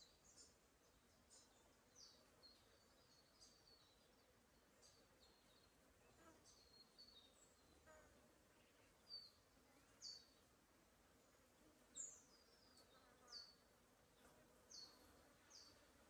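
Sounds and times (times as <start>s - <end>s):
faint forest bird calls: 0.0s - 16.0s.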